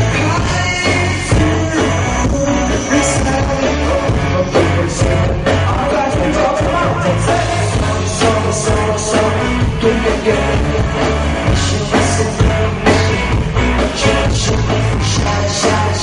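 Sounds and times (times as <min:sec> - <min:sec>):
person singing: 0:00.0 - 0:16.0
rock song with drums and guitar: 0:00.0 - 0:16.0.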